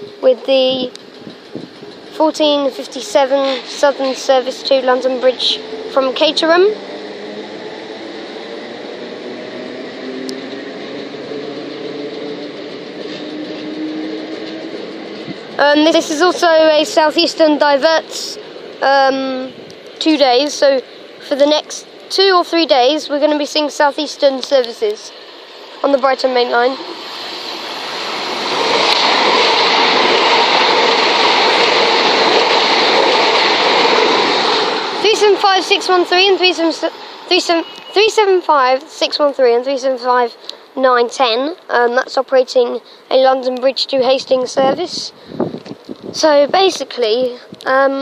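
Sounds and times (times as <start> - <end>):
train rumble: 0.0 - 48.0.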